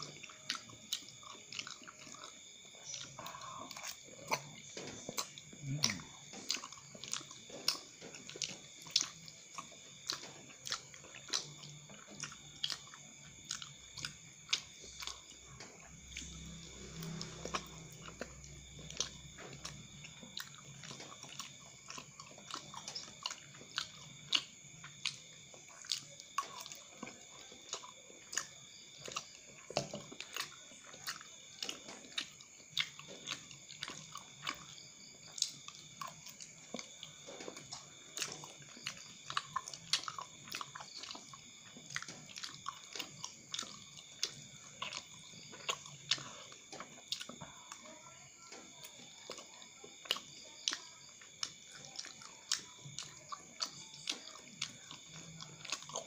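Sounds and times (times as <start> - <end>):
person chewing with wet smacks: 0.0 - 56.0.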